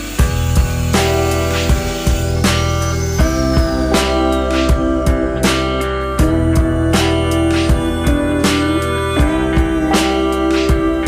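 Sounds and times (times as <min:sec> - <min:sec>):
guitar background music: 0:00.0 - 0:11.0
steady beat: 0:00.0 - 0:11.0.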